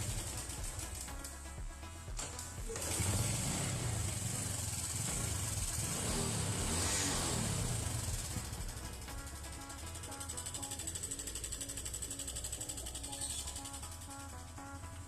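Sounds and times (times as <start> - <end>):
mechanical engine noise: 0.0 - 15.0
motorcycle engine running: 0.0 - 15.0.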